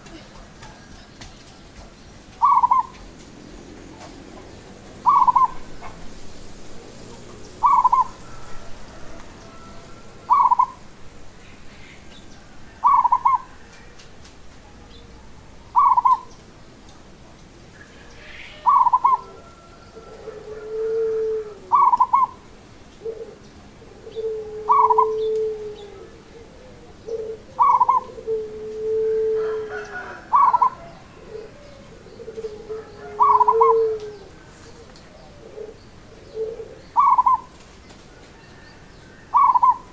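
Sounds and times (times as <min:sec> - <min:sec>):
dove rolling coos: 0:02.4 - 0:11.4, 0:12.0 - 0:14.1, 0:15.3 - 0:16.4, 0:18.1 - 0:39.9.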